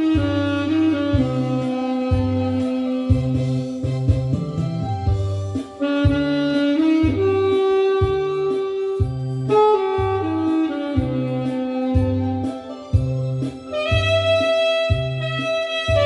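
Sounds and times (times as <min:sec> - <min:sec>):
low bass notes: 0:00.0 - 0:16.0
saxophone slow melody: 0:00.0 - 0:16.0.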